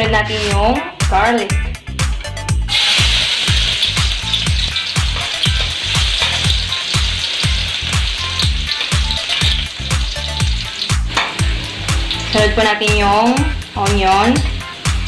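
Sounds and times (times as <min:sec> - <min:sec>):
low thumping background music: 0:00.0 - 0:15.0
garlic sizzling in hot oil: 0:02.6 - 0:15.0.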